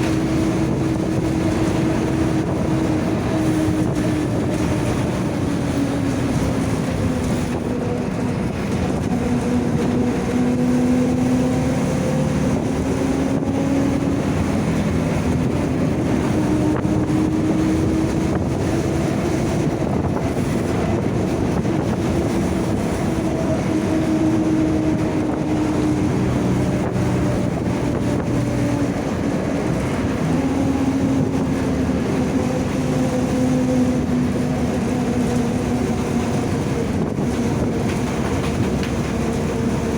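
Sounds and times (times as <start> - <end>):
bus differential whining: 0.0 - 39.9
engine and road noise: 0.0 - 39.9.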